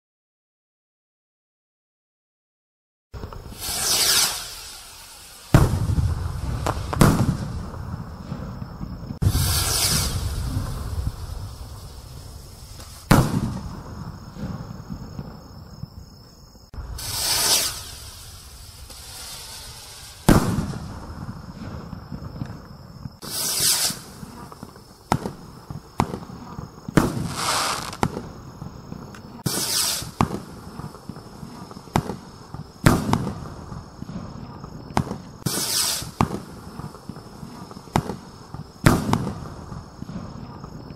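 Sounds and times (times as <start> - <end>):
firework rockets whooshing: 3.2 - 16.0, 16.7 - 40.9
firework bangs: 3.2 - 40.9
firework crackling: 3.2 - 40.9.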